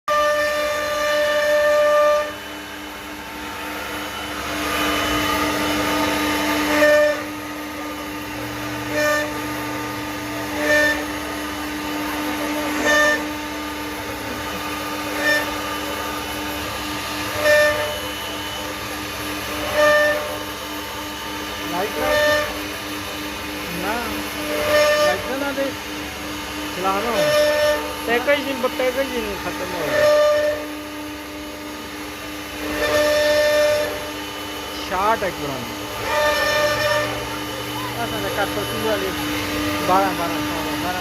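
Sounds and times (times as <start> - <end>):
cutter bit cutting wood: 0.1 - 41.0
router spindle whining: 0.1 - 41.0.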